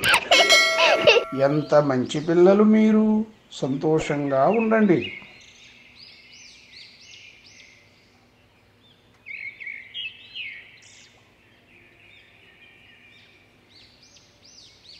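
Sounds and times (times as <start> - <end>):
small birds chirping: 1.2 - 14.9.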